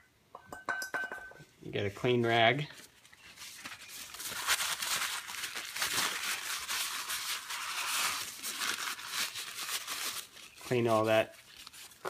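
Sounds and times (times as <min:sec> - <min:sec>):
paper towel crinkling: 0:02.0 - 0:12.0.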